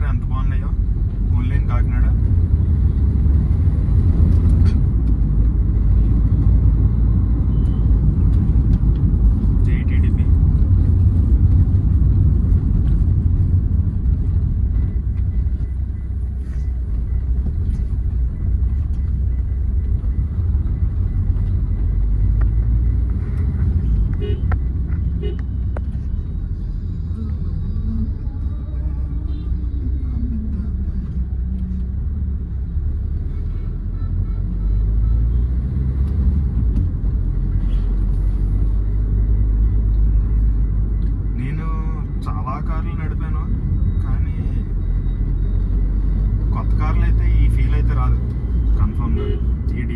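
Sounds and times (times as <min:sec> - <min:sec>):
car engine drone: 0:00.0 - 0:49.9
road noise: 0:00.0 - 0:49.9.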